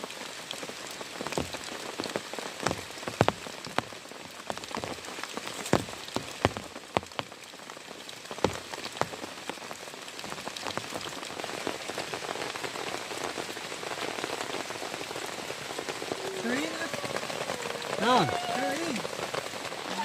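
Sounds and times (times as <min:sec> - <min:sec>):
heavy rain falling: 0:00.0 - 0:20.0
raindrops tapping surface: 0:00.0 - 0:20.0.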